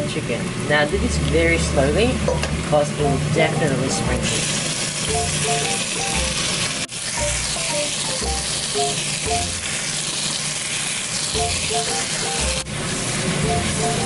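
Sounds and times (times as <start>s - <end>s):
chicken sizzling in a pot: 0.0s - 14.0s.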